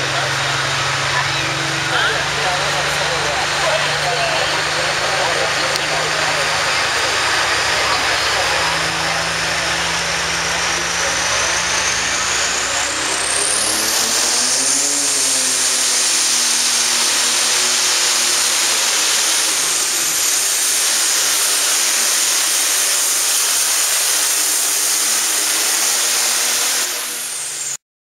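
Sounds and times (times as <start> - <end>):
diesel engine running flat out: 0.0 - 27.8
high turbo whine: 0.0 - 27.8.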